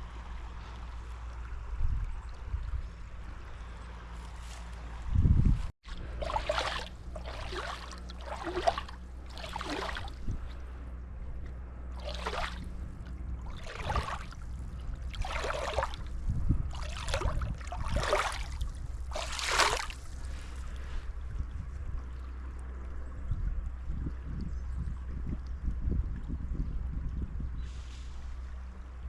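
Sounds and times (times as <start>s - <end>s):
low rumble: 4.9s - 29.0s.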